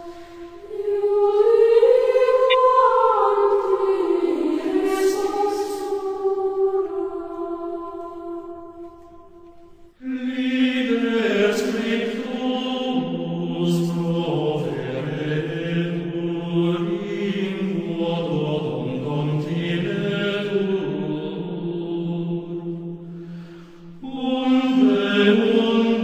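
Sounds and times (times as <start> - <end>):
voices singing slow chant: 0.0 - 26.0.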